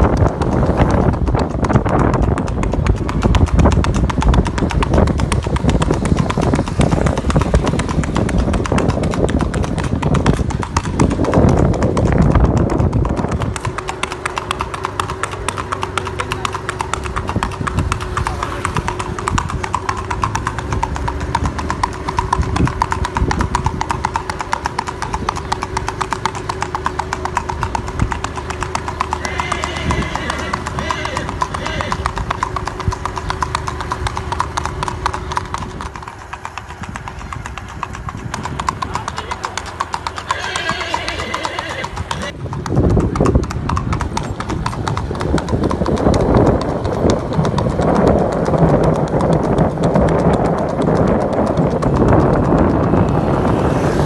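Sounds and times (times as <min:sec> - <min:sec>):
hooves clip-clopping on pavement: 0:00.0 - 0:54.0.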